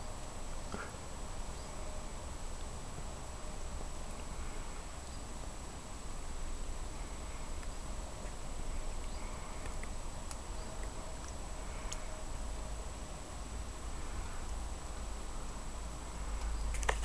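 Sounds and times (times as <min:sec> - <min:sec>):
constant high whine: 0:00.0 - 0:17.0.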